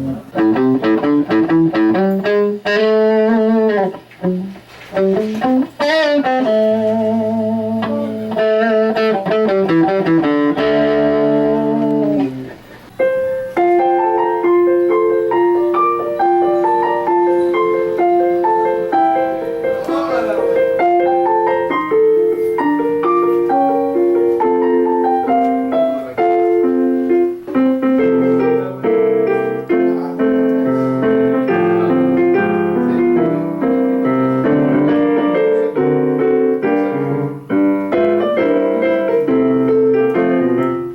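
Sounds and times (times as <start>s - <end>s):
piano-like keyboard melody: 0.0s - 40.9s.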